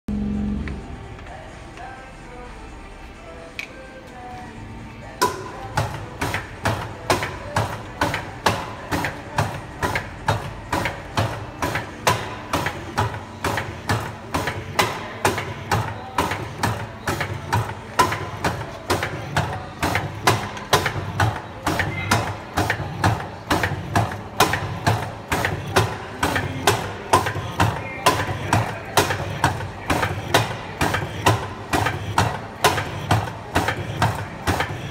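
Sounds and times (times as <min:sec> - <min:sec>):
steady machine hum: 0:00.1 - 0:34.9.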